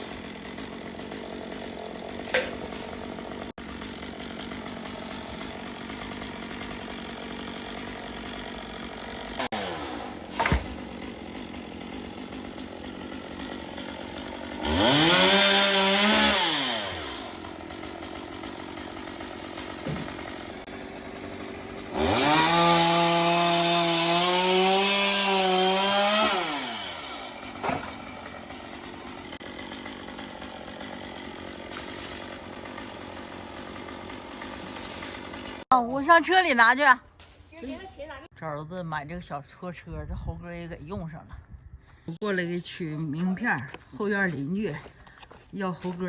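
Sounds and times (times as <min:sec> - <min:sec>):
chainsaw cutting wood: 0:00.0 - 0:36.5, 0:42.1 - 0:46.0.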